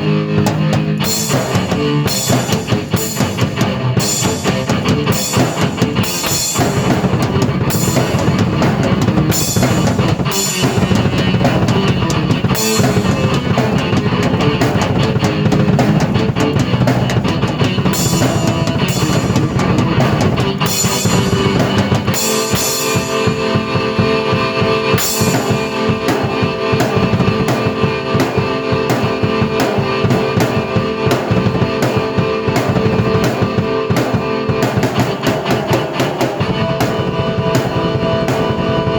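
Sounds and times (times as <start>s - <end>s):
held keyboard chords: 0.0s - 38.9s
rock drum kit: 0.0s - 38.9s.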